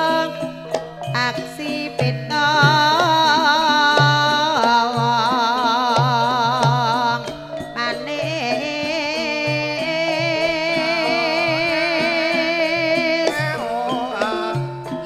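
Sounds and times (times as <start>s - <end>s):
gamelan music over loudspeakers: 0.0s - 15.0s
metallophone tones: 0.0s - 15.0s
person singing with vibrato: 0.0s - 15.0s.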